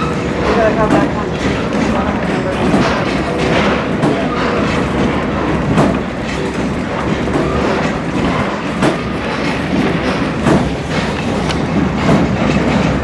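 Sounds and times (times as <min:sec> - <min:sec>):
train coach rumbling on track: 0:00.0 - 0:13.0
wheel clicks over rail joints: 0:00.9 - 0:13.0.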